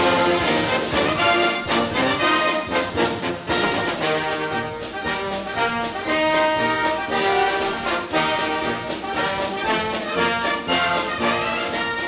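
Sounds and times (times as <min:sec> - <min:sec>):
brass section over steady beat: 0:00.0 - 0:12.0.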